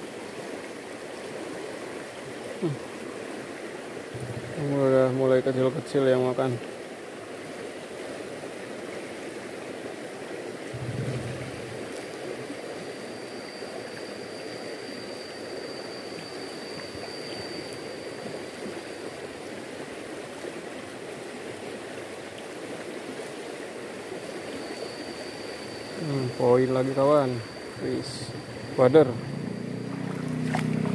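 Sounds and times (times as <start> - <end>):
faint high whine: 0.0 - 6.7, 9.8 - 30.9
river current rushing: 0.0 - 30.9.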